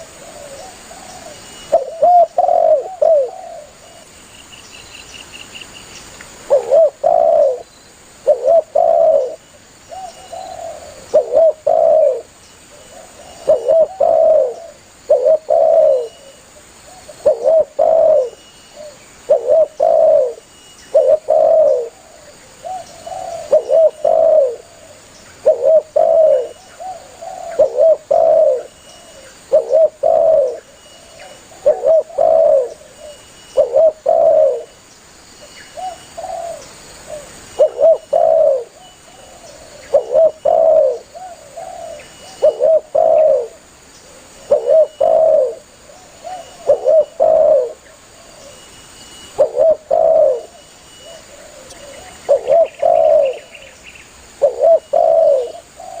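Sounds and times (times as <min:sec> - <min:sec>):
dove cooing: 0:00.0 - 0:04.1, 0:06.4 - 0:34.8, 0:35.7 - 0:48.7, 0:49.3 - 0:53.8, 0:54.4 - 0:56.0.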